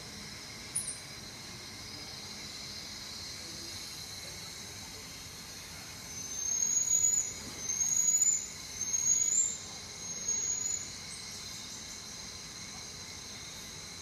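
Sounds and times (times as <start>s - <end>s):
faint steady high hum: 0.0s - 14.0s.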